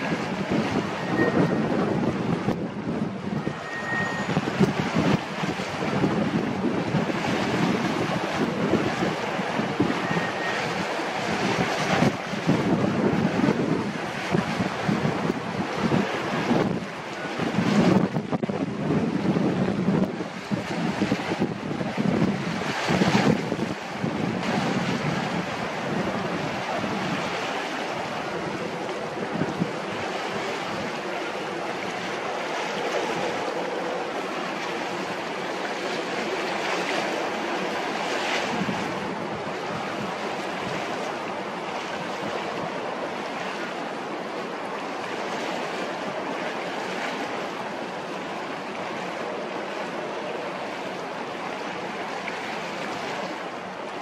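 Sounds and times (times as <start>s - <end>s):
wind on microphone: 0.0s - 43.7s
choppy water: 0.0s - 54.0s.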